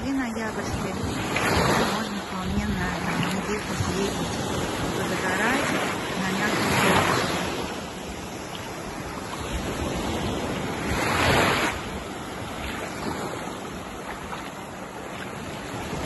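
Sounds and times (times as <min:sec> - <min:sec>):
waves washing on a beach: 0:00.0 - 0:16.0.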